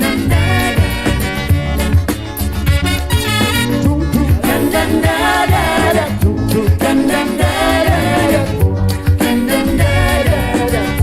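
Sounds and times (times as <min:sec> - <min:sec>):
live calypso band playing: 0:00.0 - 0:11.0
pulsing bass: 0:00.0 - 0:11.0.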